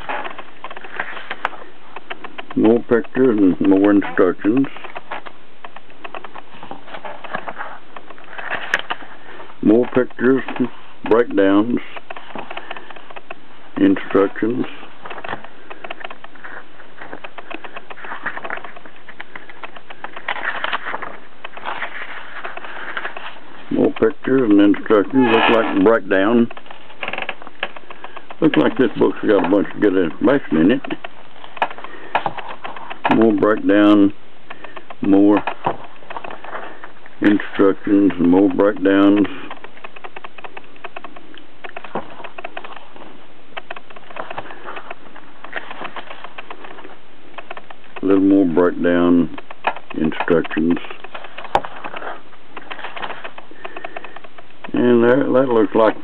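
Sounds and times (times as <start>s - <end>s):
paper pages rustling and turning: 0.0s - 56.0s
steady background hiss: 0.0s - 56.0s.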